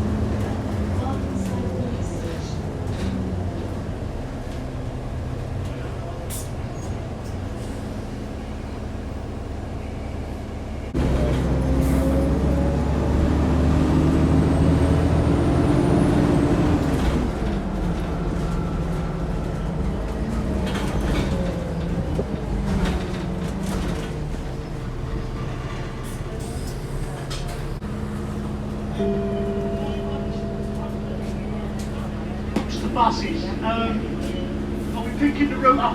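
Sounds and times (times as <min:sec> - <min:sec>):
bus engine: 0:00.0 - 0:35.9.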